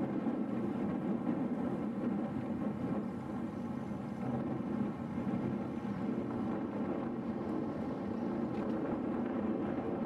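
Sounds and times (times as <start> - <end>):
bike road noise: 0.0 - 10.0
wind on microphone: 0.0 - 10.0.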